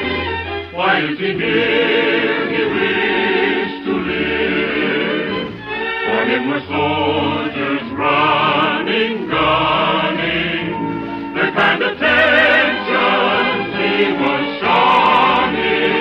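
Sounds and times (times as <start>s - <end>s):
choir singing with vibrato: 0.0s - 16.0s
orchestra playing: 0.0s - 16.0s.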